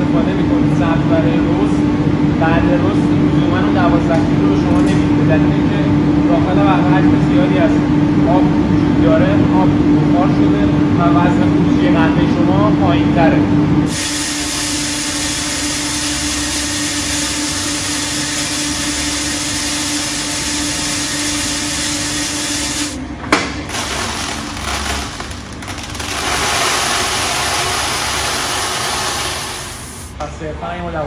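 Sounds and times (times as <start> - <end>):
coffee roaster fan and motor: 0.0 - 31.0.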